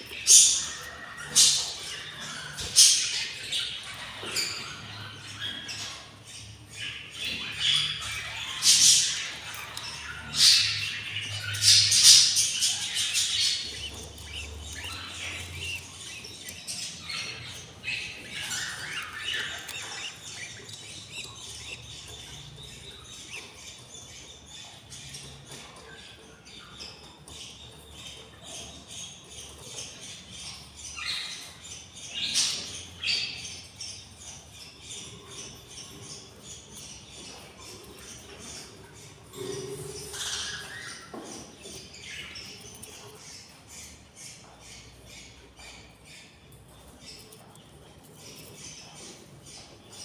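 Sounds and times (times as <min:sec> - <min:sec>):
budgerigars squawking and chirping: 0:00.0 - 0:50.0.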